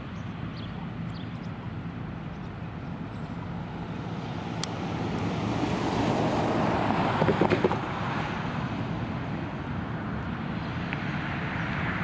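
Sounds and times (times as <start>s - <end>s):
motor vehicle running: 0.0s - 12.0s.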